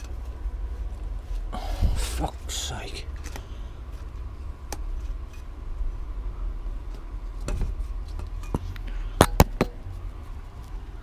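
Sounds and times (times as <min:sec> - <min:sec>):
low handling rumble: 0:00.0 - 0:11.0.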